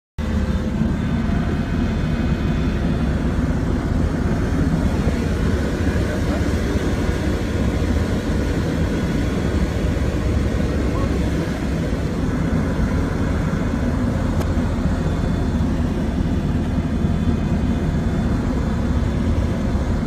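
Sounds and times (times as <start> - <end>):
strong storm wind roaring: 0.2 - 20.0.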